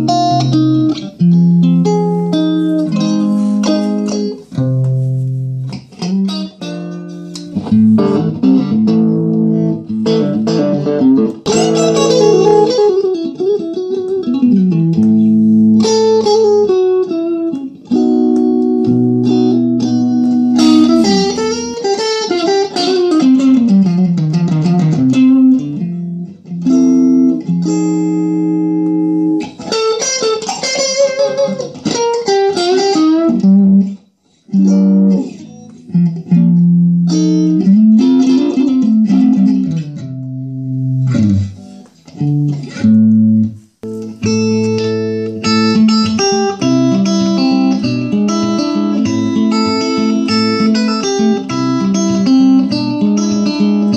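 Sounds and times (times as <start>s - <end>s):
electric guitar playing: 0.0s - 53.9s.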